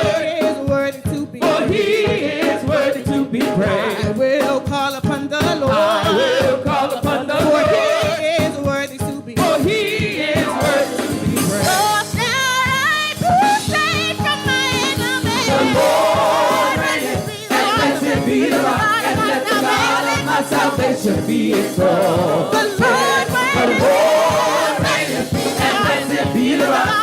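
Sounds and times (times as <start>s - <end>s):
gospel singers with band: 0.0s - 27.0s.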